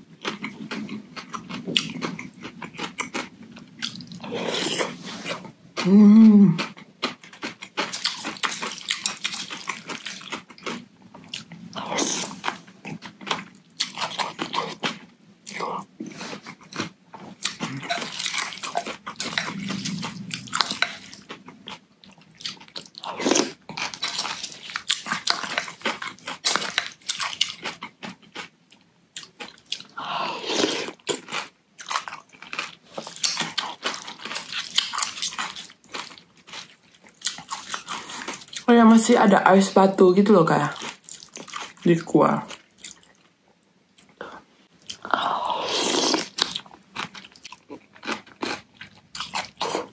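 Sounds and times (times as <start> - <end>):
chewing with crunching: 0.0 - 39.1, 40.5 - 49.9.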